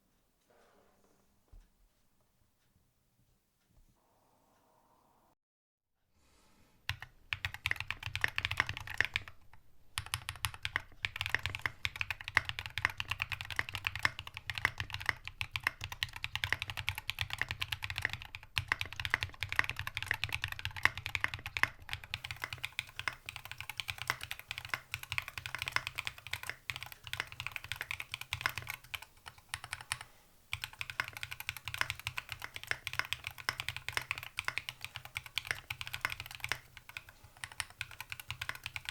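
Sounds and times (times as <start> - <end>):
fast mechanical keyboard typing: 6.9 - 38.9.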